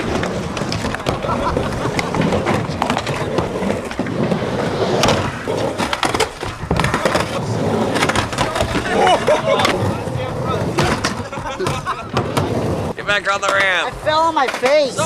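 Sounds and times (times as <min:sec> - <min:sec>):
skateboards clacking on surface: 0:00.0 - 0:15.0
skateboards rolling on ramp: 0:00.0 - 0:15.0.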